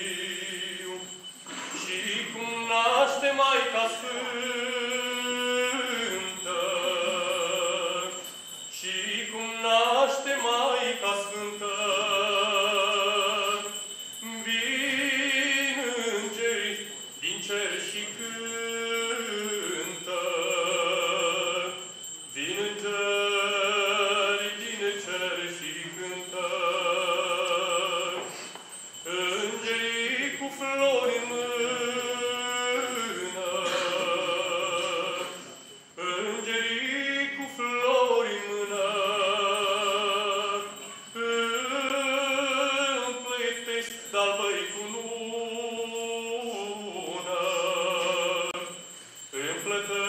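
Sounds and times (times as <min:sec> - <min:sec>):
man singing a carol solo: 0:00.0 - 0:28.4, 0:29.0 - 0:50.0.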